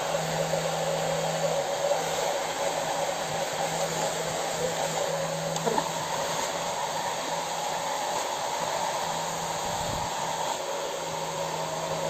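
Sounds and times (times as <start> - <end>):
hair dryer blowing air: 0.0 - 12.0.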